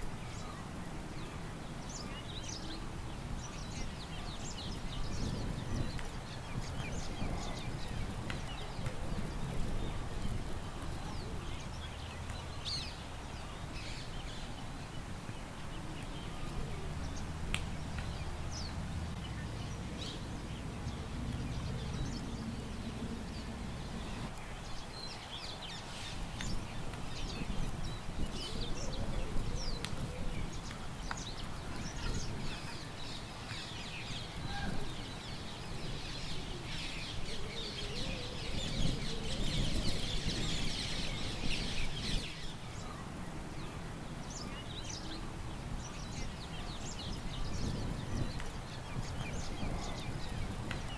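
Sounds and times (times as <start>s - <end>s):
low rumble of wind: 0.0s - 50.9s
songbirds chirping: 0.0s - 50.9s.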